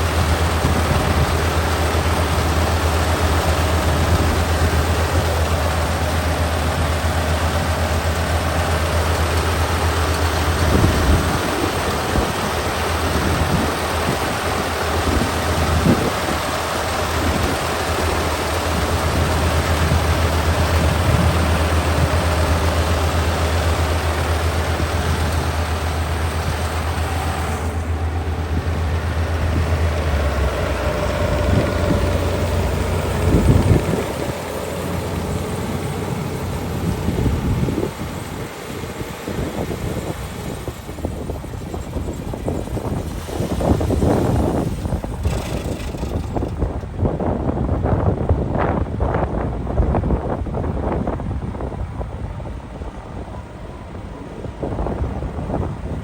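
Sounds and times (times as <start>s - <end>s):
machinery clatter: 0.0s - 48.9s
diesel engine hum: 0.0s - 56.0s.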